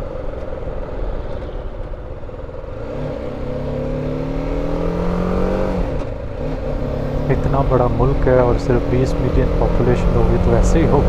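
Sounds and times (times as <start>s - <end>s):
motorcycle engine accelerating: 0.1s - 11.0s.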